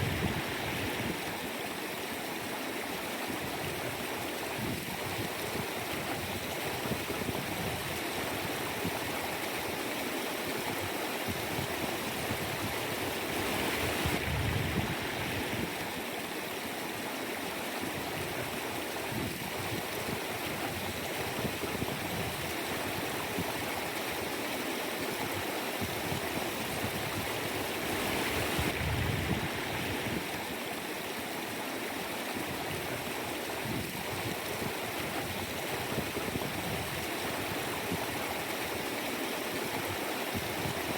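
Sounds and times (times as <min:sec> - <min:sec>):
mountain stream flowing: 0:00.0 - 0:40.9.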